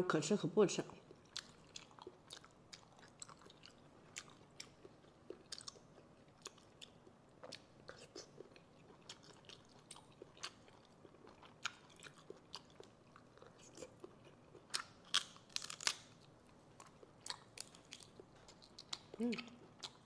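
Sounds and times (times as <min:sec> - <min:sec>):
chewing: 0:01.0 - 0:20.0.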